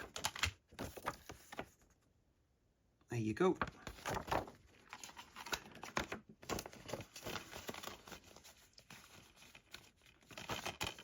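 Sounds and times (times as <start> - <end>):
paper rustling: 0.0 - 2.0, 3.6 - 11.0.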